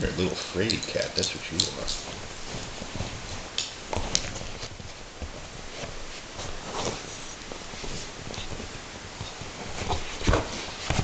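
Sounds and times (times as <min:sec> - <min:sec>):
animals scuffling: 0:00.0 - 0:11.0
paws thumping on leather couch: 0:01.8 - 0:11.0.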